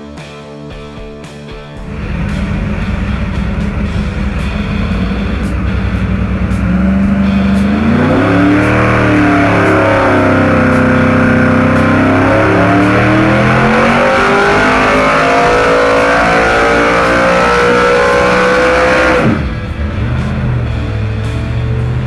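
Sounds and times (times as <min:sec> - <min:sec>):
car engine revving at full throttle: 0:01.8 - 0:22.0.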